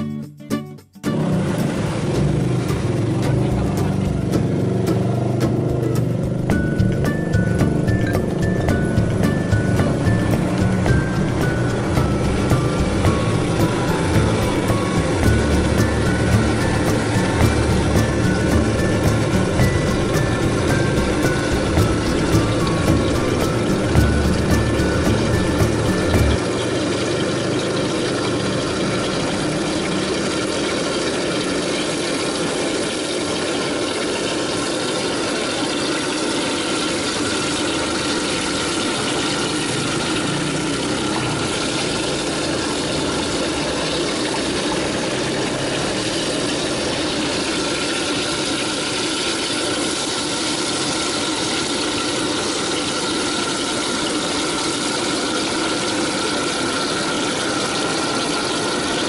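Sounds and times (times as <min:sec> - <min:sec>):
gas burner roaring: 0:01.2 - 0:59.0.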